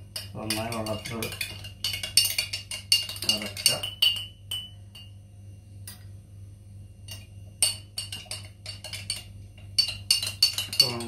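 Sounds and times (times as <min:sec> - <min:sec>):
spoon clinking against glass: 0:00.2 - 0:05.2, 0:07.1 - 0:11.0.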